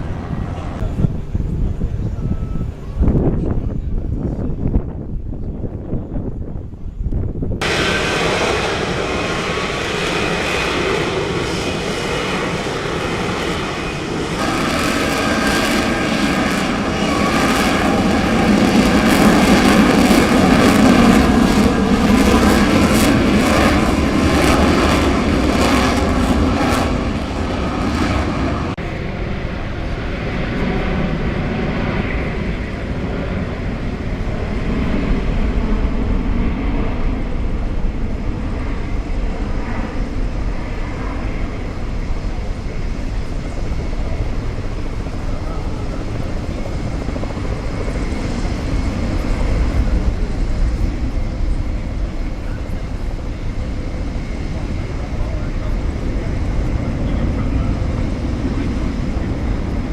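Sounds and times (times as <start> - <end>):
aircraft engines overhead: 0.0 - 59.9.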